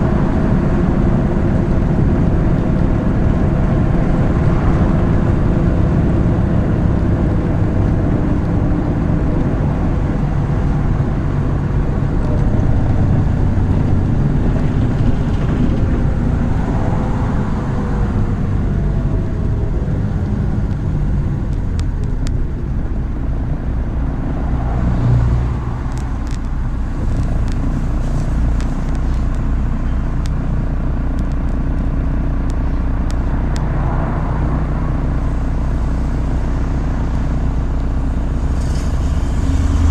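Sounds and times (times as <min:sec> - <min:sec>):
bus diesel engine drone: 0:00.0 - 0:39.9
road noise: 0:00.0 - 0:39.9.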